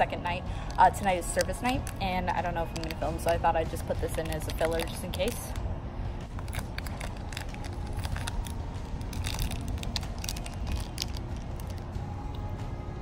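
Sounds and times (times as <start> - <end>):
steady low rumble: 0.0 - 13.0
plastic wrapper crinkling: 0.7 - 5.6, 6.3 - 11.9.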